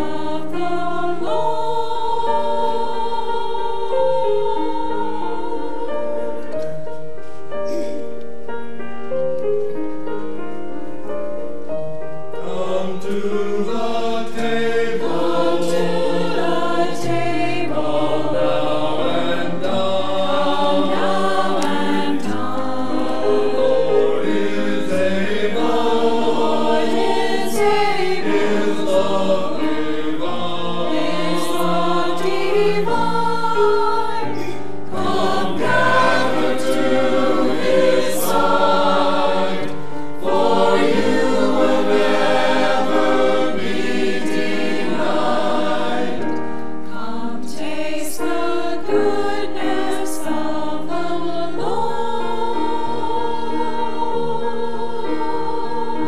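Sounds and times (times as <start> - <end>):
mixed choir singing in parts: 0.0 - 6.6, 12.4 - 56.0
piano accompaniment: 0.0 - 56.0.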